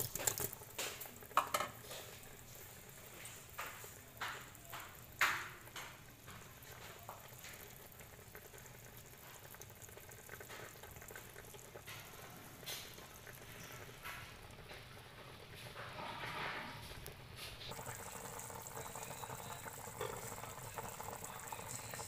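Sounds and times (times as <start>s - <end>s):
broth simmering with bubbling: 0.0s - 22.0s.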